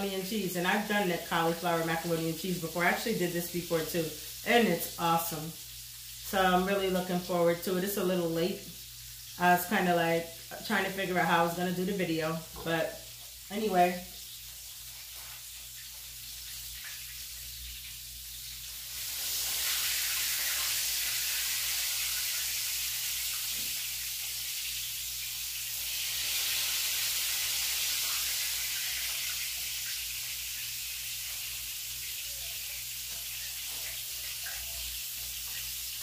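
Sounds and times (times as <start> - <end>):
food frying in oil: 0.0 - 36.0.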